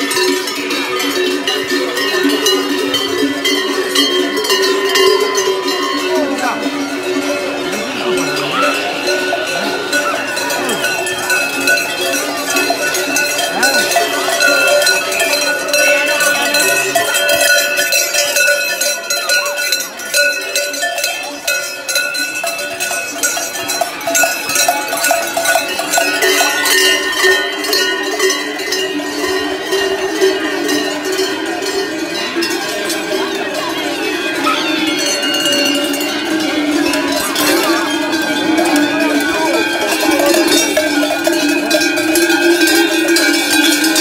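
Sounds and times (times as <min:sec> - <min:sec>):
cowbells clanging: 0:00.0 - 0:44.0.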